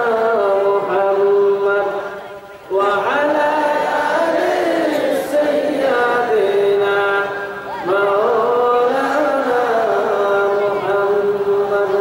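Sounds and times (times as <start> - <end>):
man singing a chant into a microphone: 0.0 - 12.0.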